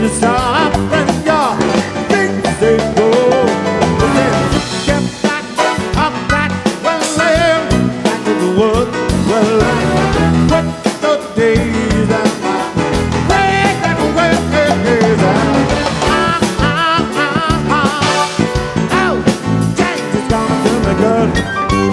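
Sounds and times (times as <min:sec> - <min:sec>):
bass guitar: 0:00.0 - 0:21.9
drums: 0:00.0 - 0:21.9
keyboards: 0:00.0 - 0:21.9
man singing: 0:00.0 - 0:21.9
piano boogie: 0:00.0 - 0:21.9.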